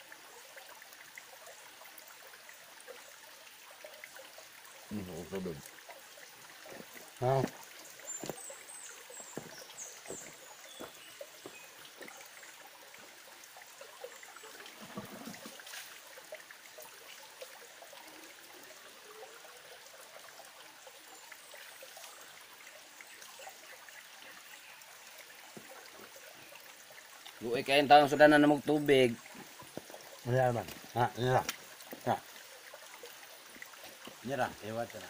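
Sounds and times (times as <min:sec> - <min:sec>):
stream trickling over stones: 0:00.0 - 0:35.0.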